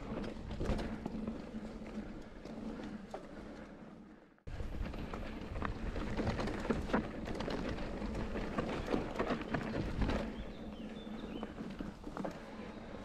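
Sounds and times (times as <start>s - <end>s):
bike rattling: 0.0s - 13.0s
bike tyres crunching over ground: 0.0s - 13.0s.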